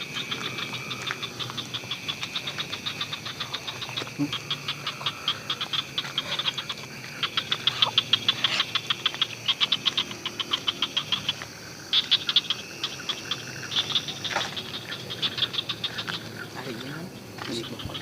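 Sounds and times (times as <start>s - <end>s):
high-pitched insect trill: 0.0s - 18.0s
sharp clicking animal calls: 0.0s - 18.0s.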